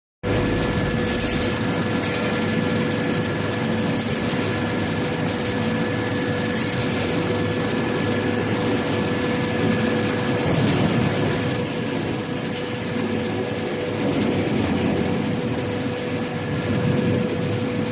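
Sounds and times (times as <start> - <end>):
constant machine whining tones: 0.2 - 17.9
machine humming: 0.2 - 17.9.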